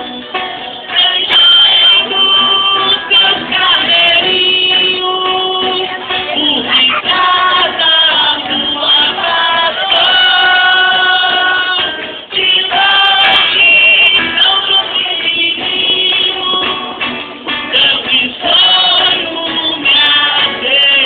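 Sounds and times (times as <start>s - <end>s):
voices singing together: 0.0s - 21.0s.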